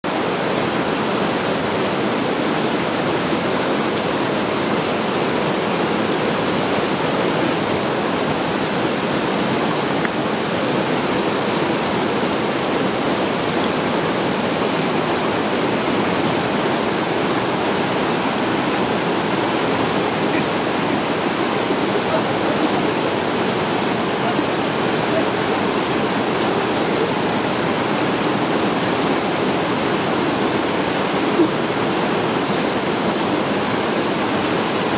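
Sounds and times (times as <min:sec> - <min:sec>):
stream rushing over boulders: 0:00.0 - 0:34.9.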